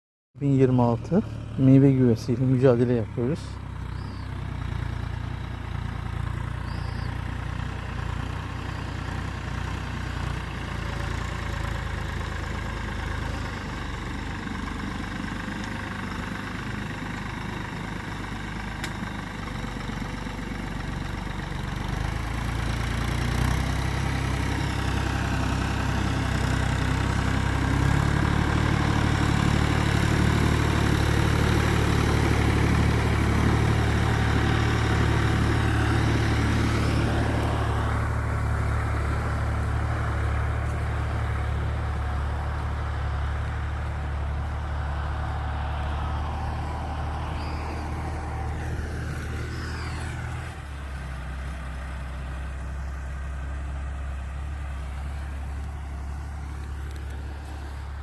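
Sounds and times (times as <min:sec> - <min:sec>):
low motor hum: 0:00.4 - 0:58.0.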